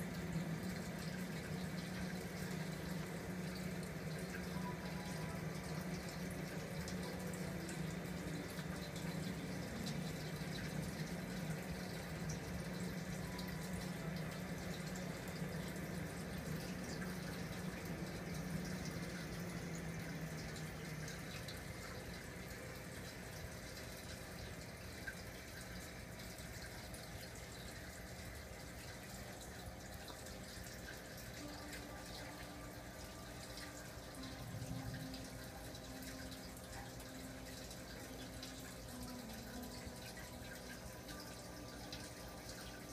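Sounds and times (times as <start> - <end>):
low pump hum: 0.0 - 42.9
water trickling and splashing: 0.0 - 42.9.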